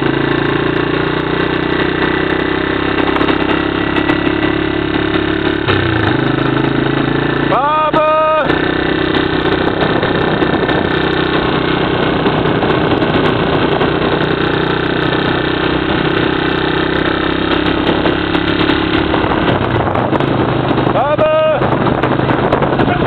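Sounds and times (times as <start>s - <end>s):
tyres on gravel road: 0.0s - 23.0s
vehicle engine humming: 0.0s - 23.0s.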